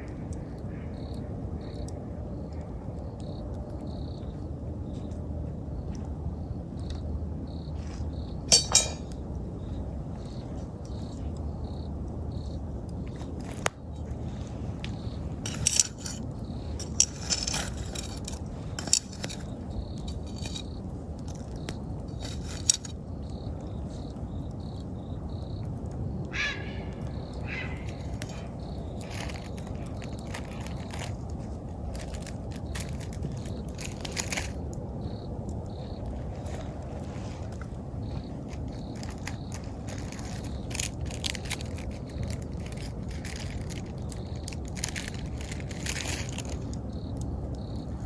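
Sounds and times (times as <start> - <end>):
insects chirping: 0.0 - 48.0
campfire crackling and popping: 0.1 - 48.0.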